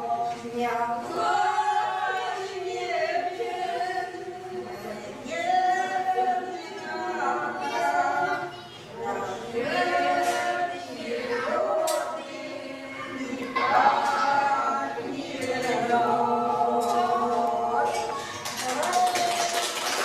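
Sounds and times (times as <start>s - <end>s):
unaccompanied voices singing: 0.0s - 20.0s.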